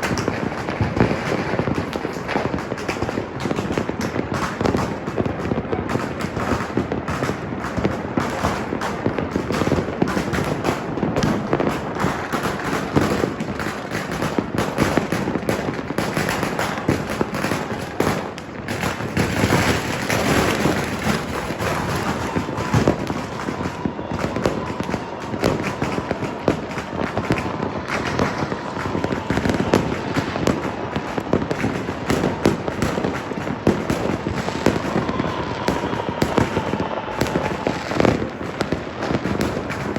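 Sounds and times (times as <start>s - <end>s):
firecrackers crackling and banging: 0.0s - 39.9s.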